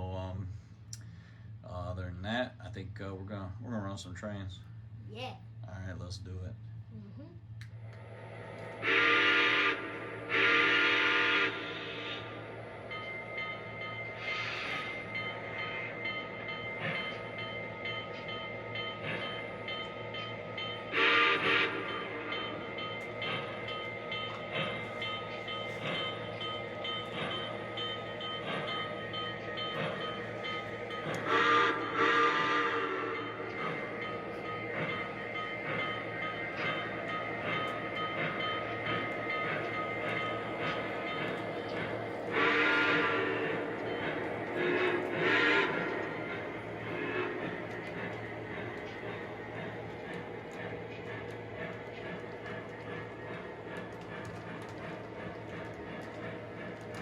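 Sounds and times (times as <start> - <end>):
model train running: 0.0 - 6.9, 7.6 - 57.0.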